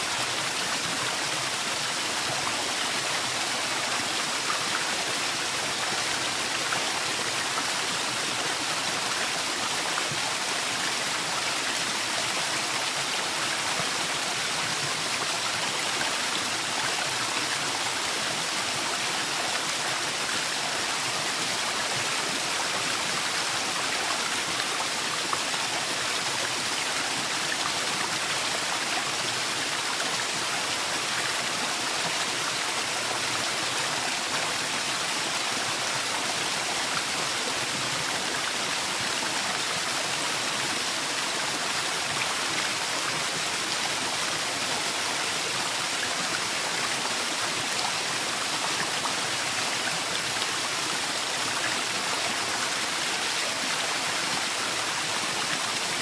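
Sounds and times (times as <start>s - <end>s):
waterfall rushing water: 0.0s - 56.0s.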